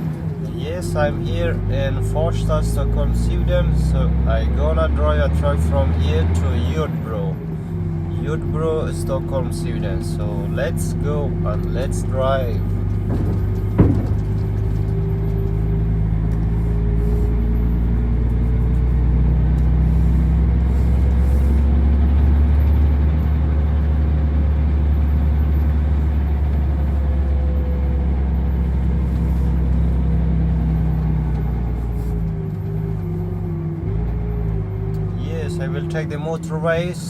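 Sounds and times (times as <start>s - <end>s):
truck engine rumbling with whine: 0.0s - 37.0s.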